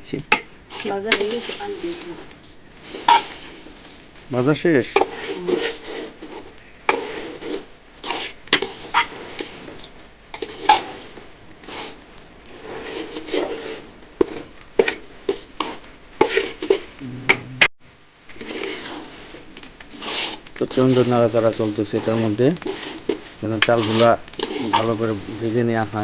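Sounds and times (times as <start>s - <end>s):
spatula scraping a cooking pot: 0.3s - 4.0s, 4.7s - 17.0s, 18.3s - 26.0s.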